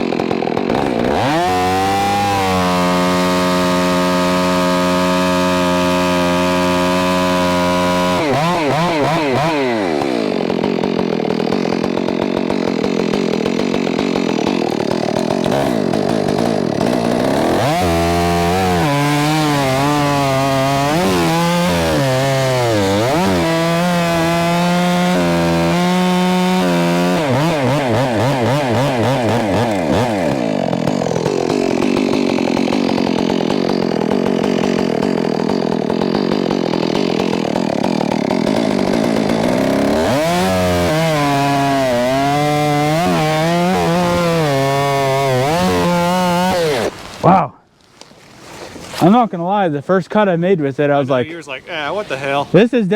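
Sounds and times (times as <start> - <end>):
chainsaw cutting logs: 0.0 - 52.9.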